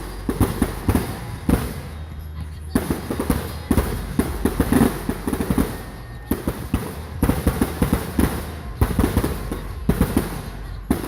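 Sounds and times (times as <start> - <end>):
fireworks bursting with loud bangs: 0.0 - 11.0.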